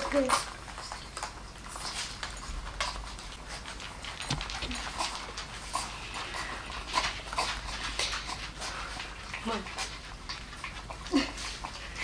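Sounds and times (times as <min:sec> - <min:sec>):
puppies lapping food: 0:00.0 - 0:12.0.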